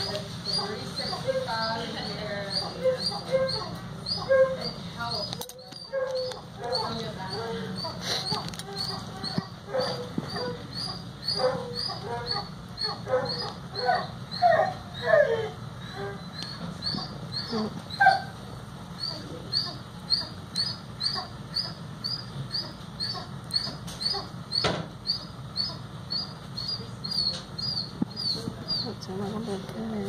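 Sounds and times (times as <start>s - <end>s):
animal whining: 0.0s - 29.5s.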